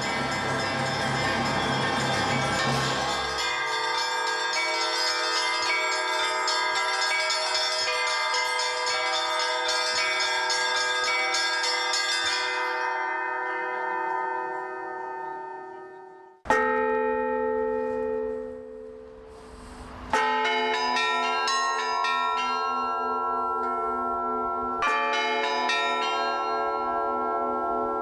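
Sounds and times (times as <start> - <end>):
small church bells ringing rapidly: 0.0 - 19.3, 20.0 - 28.0
hum of larger bells: 0.0 - 28.0.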